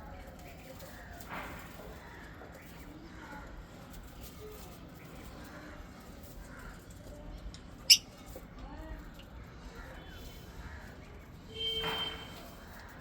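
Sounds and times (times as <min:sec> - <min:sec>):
faint soft bird chatter: 0:00.0 - 0:13.0.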